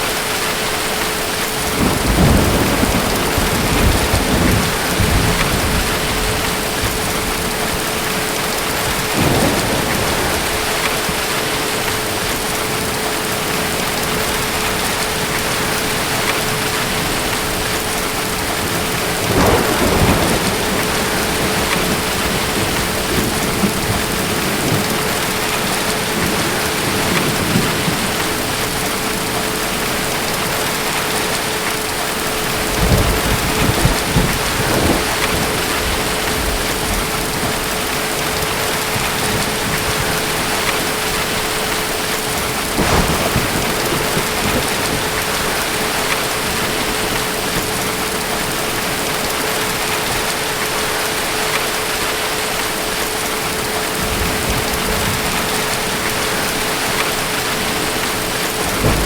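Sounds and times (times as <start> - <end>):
heavy rain: 0.0 - 59.0
thunder rolling: 1.1 - 50.3, 53.4 - 59.0.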